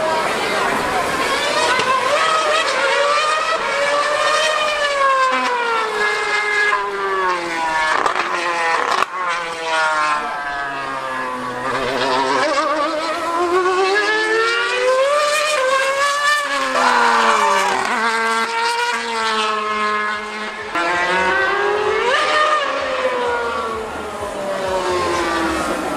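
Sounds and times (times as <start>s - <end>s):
race car engine screaming: 0.0s - 25.9s.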